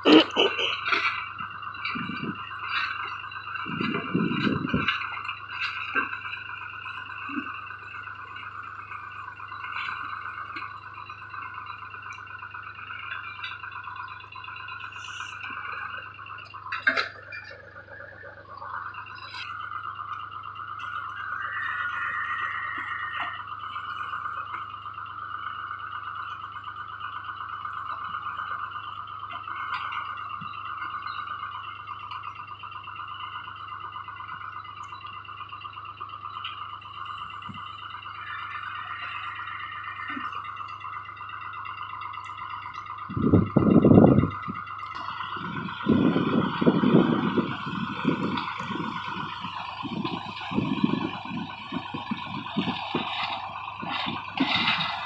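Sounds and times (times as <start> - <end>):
hydraulic whine: 0.0 - 55.0
tractor engine running: 0.0 - 55.0.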